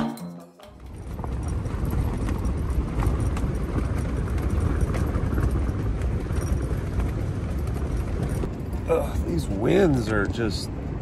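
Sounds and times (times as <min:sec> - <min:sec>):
tent fabric rattling and snapping: 0:00.8 - 0:10.2
strong wind rumbling: 0:00.8 - 0:11.0.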